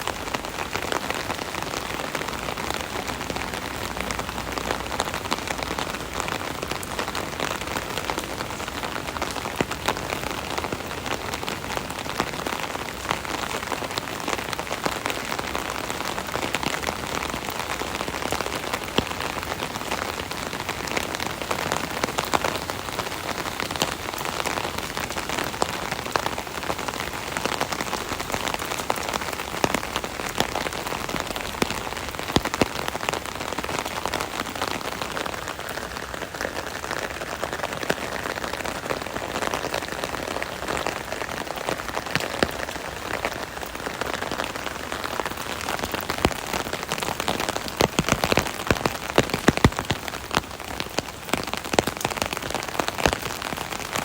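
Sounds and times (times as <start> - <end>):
rain pattering on an umbrella: 0.0 - 54.0.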